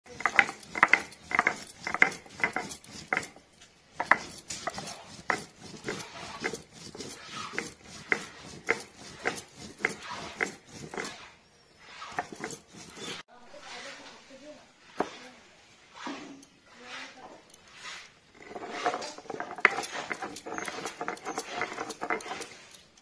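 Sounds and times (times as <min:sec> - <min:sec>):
stone roller scraping on grinding stone: 0:00.1 - 0:14.2, 0:14.8 - 0:15.3, 0:15.9 - 0:23.0.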